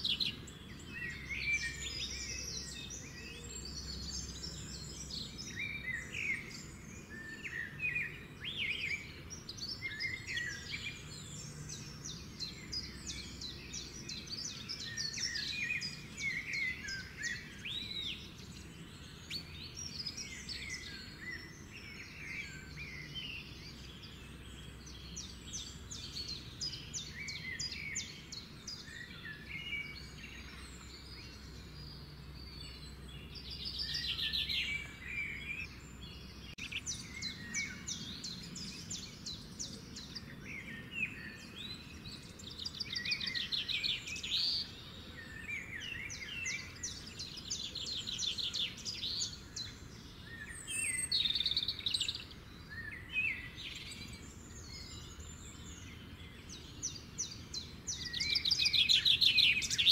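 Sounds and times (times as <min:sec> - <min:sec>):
birds chirping and singing: 0:00.0 - 0:59.9.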